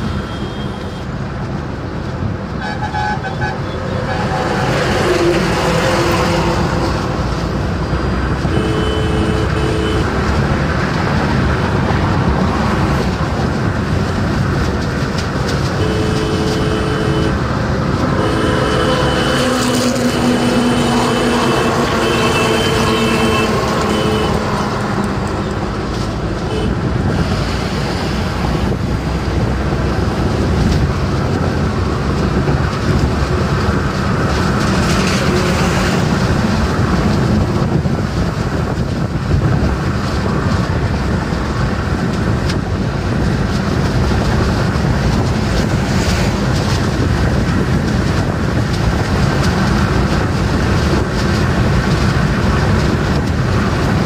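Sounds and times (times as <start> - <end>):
car cabin road noise: 0.0 - 54.0.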